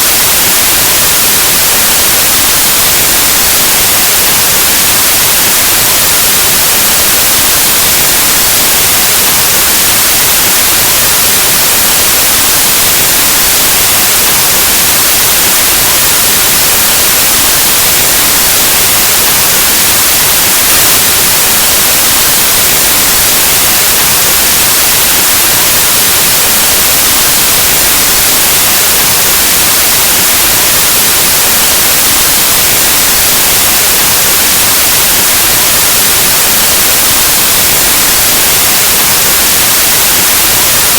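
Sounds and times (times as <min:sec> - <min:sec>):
white noise static hiss: 0:00.0 - 0:40.9.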